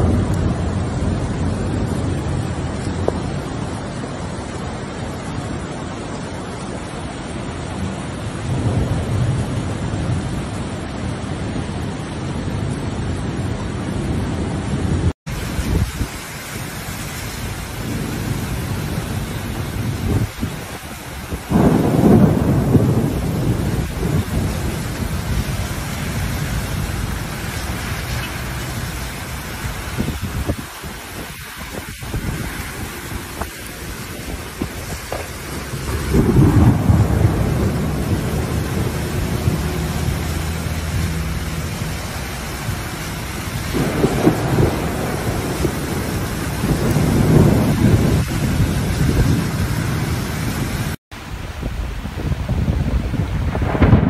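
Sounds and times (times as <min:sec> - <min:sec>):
deep rumble of thunder: 0:00.0 - 0:06.1, 0:07.6 - 0:51.0, 0:51.7 - 0:54.0
heavy rain pouring: 0:00.0 - 0:54.0.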